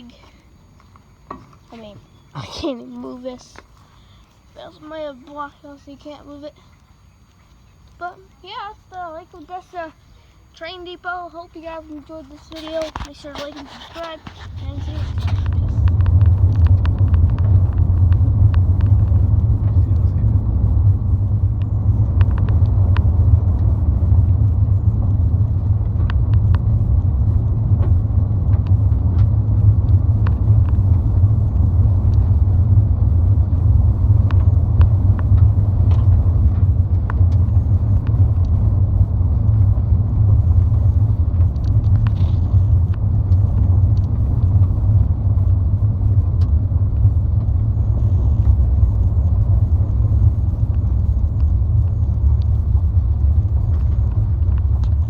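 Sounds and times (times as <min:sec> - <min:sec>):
faint clicks: 0:03.5 - 0:10.7, 0:11.7 - 0:55.0
car cabin rumble: 0:10.6 - 0:55.0.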